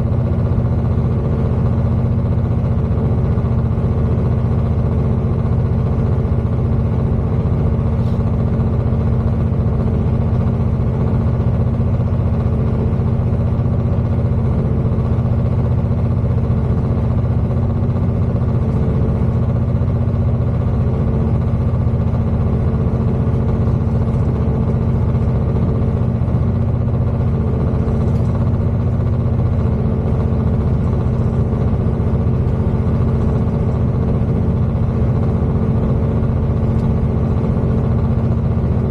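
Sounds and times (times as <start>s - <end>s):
diesel engines humming: 0.0s - 38.9s
train rumbling on track: 0.0s - 38.9s.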